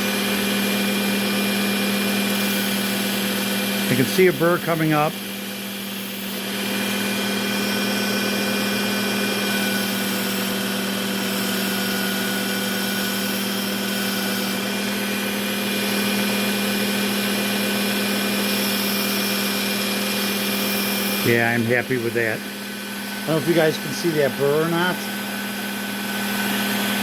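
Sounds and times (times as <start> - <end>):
belt sharpener motor whine: 0.0 - 27.0.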